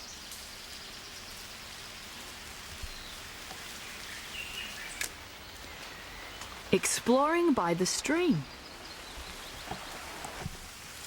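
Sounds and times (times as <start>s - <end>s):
rainforest background hiss: 0.0s - 11.0s.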